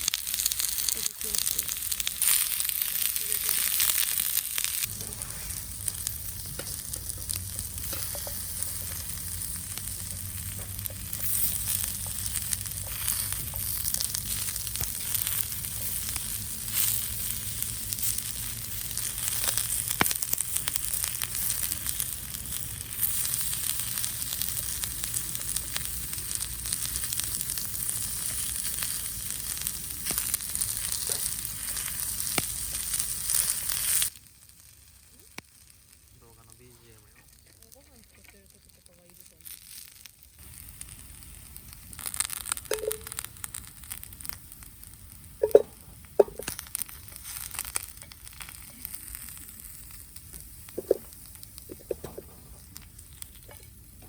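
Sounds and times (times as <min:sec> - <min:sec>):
oil crackling and popping: 0:00.0 - 0:54.0
vegetables sizzling in oil: 0:00.0 - 0:54.0.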